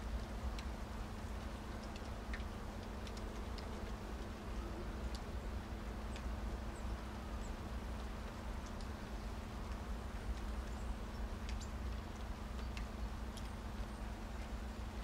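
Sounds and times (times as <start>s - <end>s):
faint hum: 0.0s - 15.0s
rain rumble: 0.0s - 15.0s
soft rain ticks: 0.0s - 15.0s.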